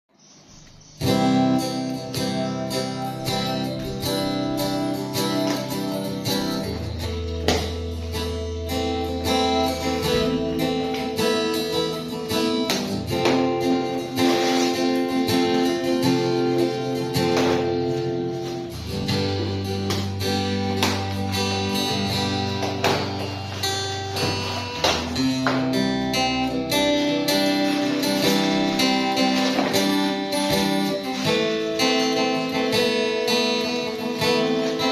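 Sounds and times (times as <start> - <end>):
guitar music with bass: 0.2 - 34.9.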